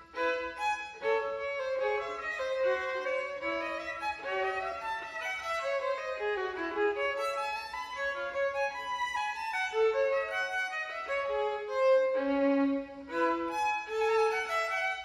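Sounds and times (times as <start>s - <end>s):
solo violin melody: 0.0s - 15.0s.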